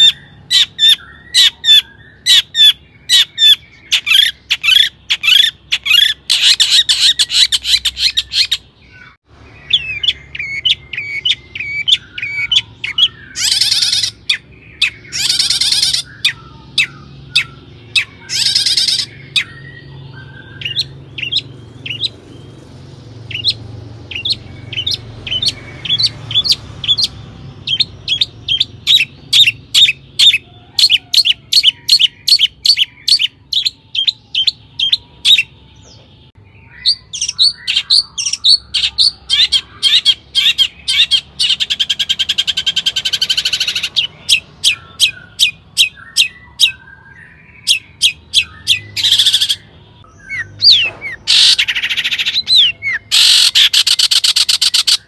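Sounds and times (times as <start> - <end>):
bird harsh rasping calls: 0.0 - 35.6, 36.4 - 55.0
bird high chipping notes: 0.0 - 55.0.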